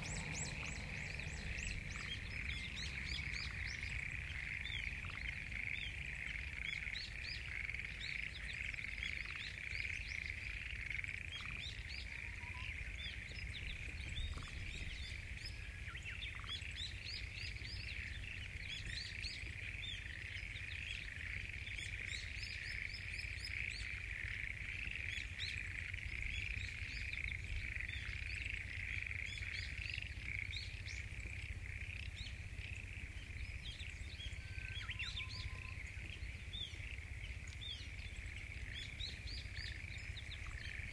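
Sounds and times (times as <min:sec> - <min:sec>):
frogs chorus calling: 0:00.0 - 0:40.9.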